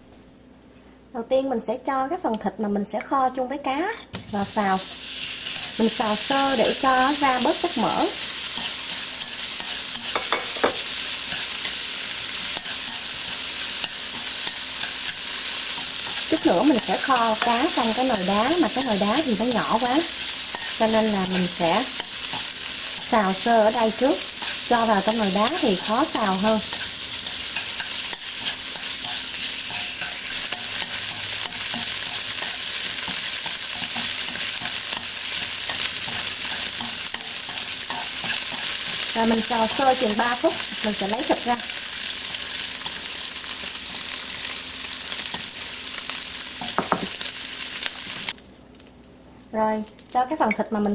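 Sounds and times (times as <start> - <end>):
meat sizzling in a wok: 4.2 - 50.8.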